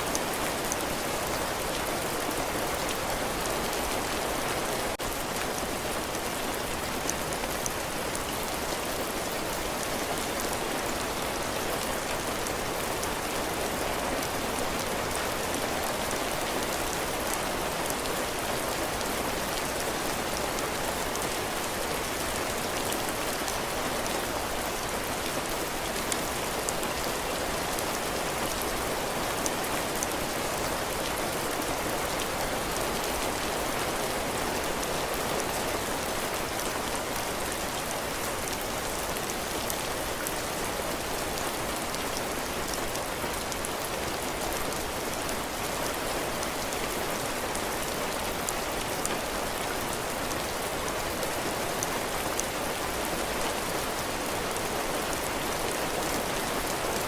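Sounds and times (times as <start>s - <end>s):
heavy rain on roof and ground: 0.0s - 57.0s.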